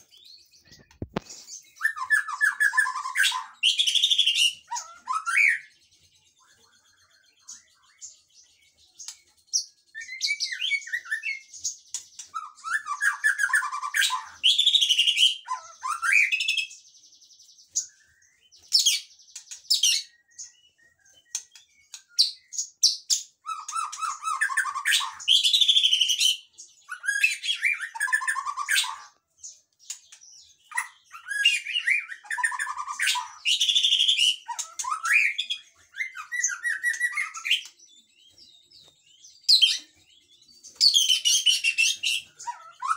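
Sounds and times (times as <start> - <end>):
bird singing whistles and trills: 0.0 - 42.9.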